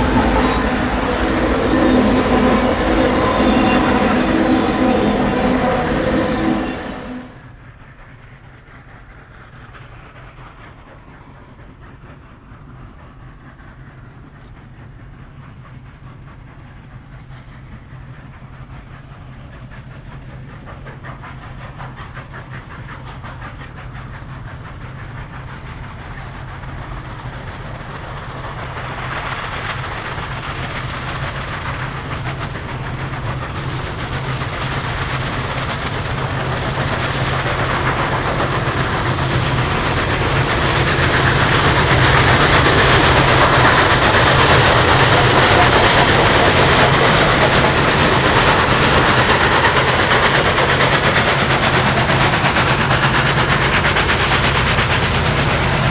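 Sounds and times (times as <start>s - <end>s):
steam locomotive rumble and hiss: 0.0s - 55.9s.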